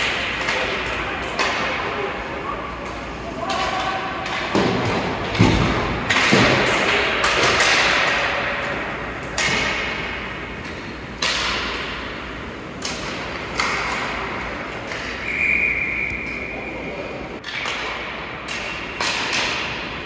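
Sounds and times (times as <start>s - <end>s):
pucks and sticks hitting boards: 0.0s - 16.6s, 17.4s - 20.0s.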